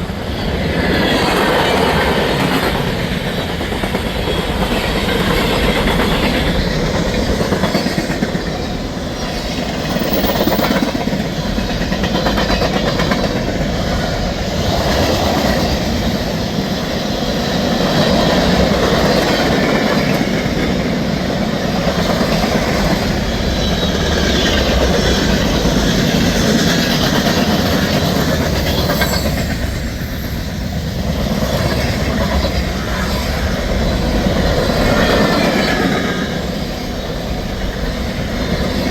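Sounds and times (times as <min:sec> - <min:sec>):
freight train rumbling: 0:00.0 - 0:38.9.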